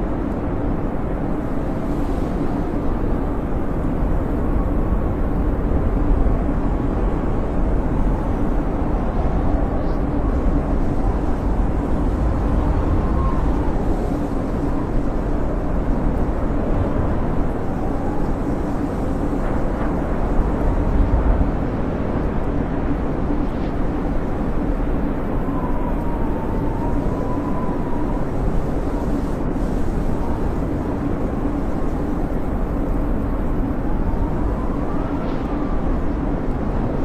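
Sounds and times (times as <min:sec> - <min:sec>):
faint wind whistle: 0:00.0 - 0:21.8, 0:22.9 - 0:37.0
blizzard wind rushing: 0:00.0 - 0:37.0.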